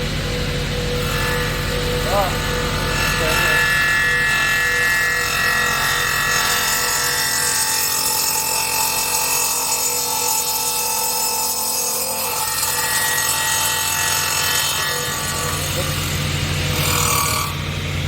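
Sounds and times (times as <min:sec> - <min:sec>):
saw motor humming and whining: 0:00.0 - 0:18.0.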